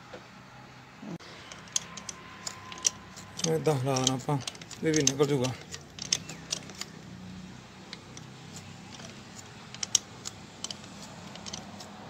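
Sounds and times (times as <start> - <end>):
sharp metal clicks and taps: 1.4 - 7.0, 7.9 - 12.0.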